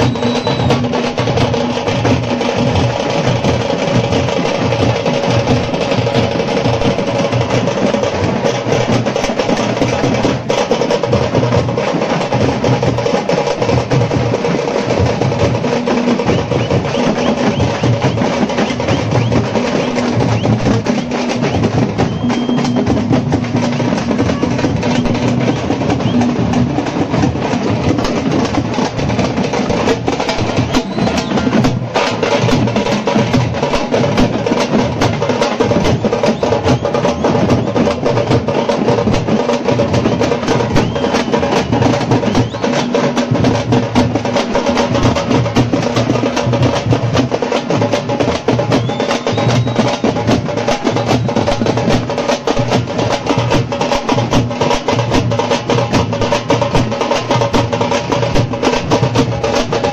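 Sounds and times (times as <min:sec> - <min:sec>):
frame drums beaten fast: 0:00.0 - 0:59.9.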